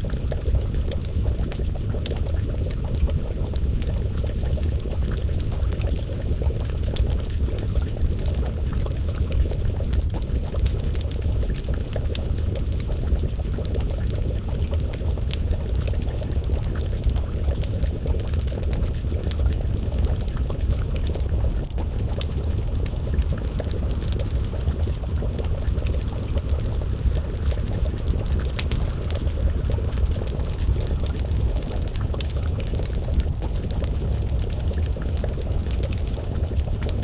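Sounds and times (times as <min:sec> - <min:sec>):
steady low rumble: 0:00.0 - 0:37.0
stew bubbling in a pot: 0:00.0 - 0:37.0
wood fire crackling: 0:00.0 - 0:37.0.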